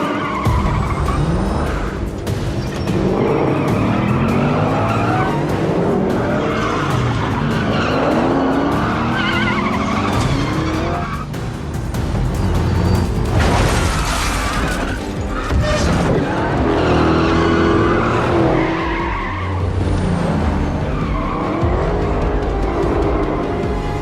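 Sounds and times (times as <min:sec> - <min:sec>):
tyres squealing: 0:00.0 - 0:11.4, 0:12.1 - 0:24.0
car engines running hard: 0:00.0 - 0:24.0
film music score: 0:00.0 - 0:24.0.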